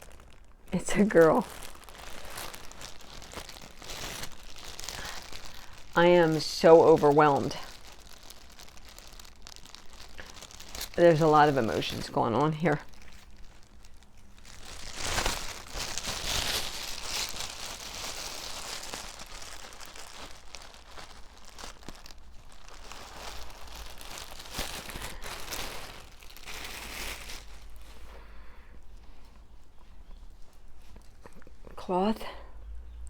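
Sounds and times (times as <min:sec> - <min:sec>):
packaging tearing: 0:00.0 - 0:27.9
packaging crinkling and rustling: 0:00.0 - 0:31.7.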